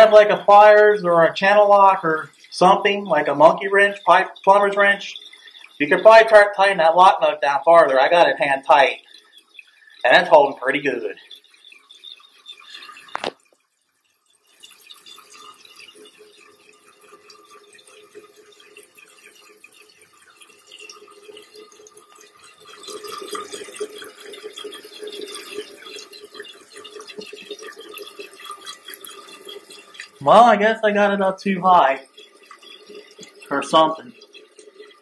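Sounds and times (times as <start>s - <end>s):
water running into toilet tank: 0.0s - 35.0s.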